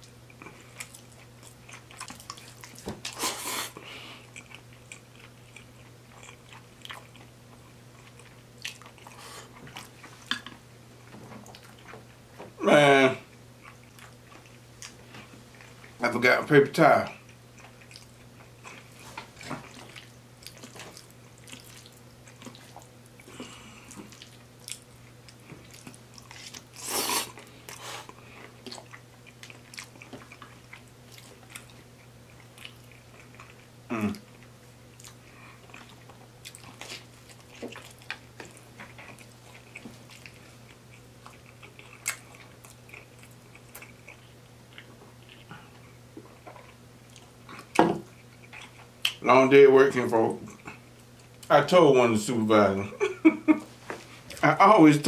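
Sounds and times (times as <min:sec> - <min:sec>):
chewing and biting food: 0:00.0 - 0:10.6, 0:11.3 - 0:12.1, 0:13.3 - 0:16.0, 0:17.1 - 0:49.2
low steady hum: 0:00.0 - 0:55.0.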